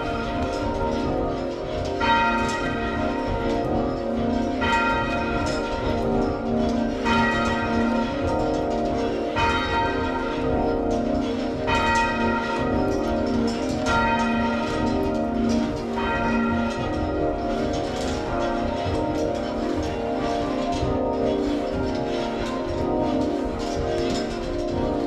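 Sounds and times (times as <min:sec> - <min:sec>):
muffled church bells: 0:00.0 - 0:25.0.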